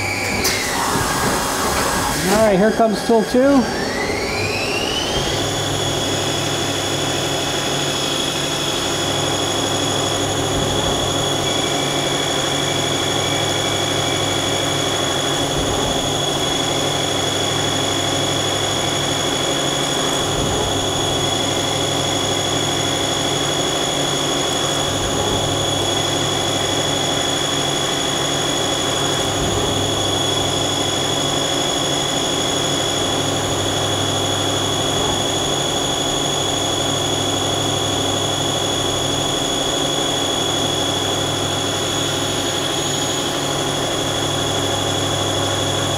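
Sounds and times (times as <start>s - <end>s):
lathe high whine: 0.0s - 45.9s.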